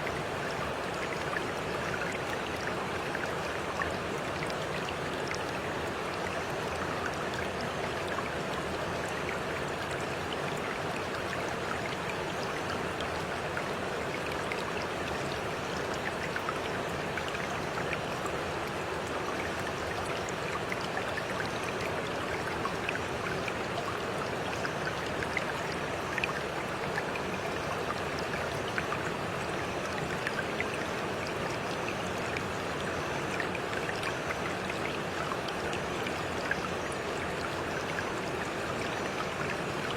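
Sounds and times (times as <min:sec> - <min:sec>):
stream running: 0:00.0 - 0:39.9
water splashes and trickles: 0:00.0 - 0:39.9.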